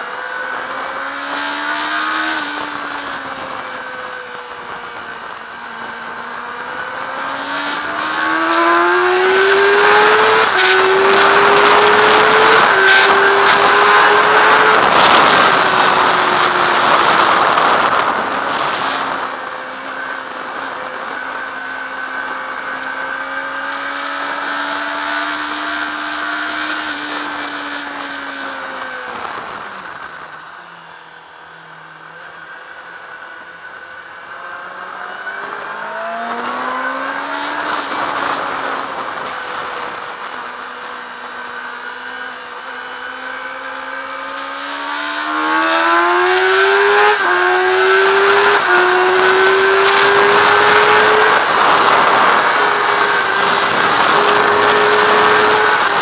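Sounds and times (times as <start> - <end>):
loud wind rush: 0.0 - 31.0, 34.6 - 56.0
motorcycle engine at speed: 0.0 - 56.0.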